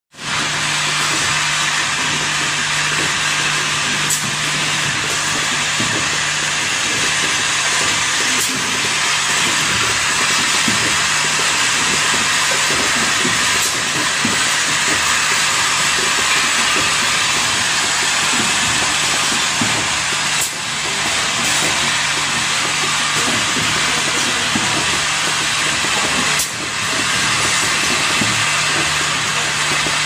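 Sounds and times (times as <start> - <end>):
steady loud machine hiss: 0.2 - 30.0.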